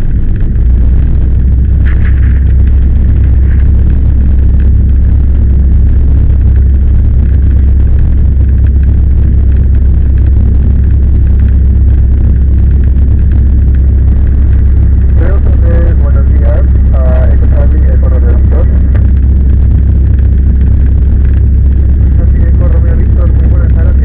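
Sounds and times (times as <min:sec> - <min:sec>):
plane engine and propeller droning: 0:00.0 - 0:24.0.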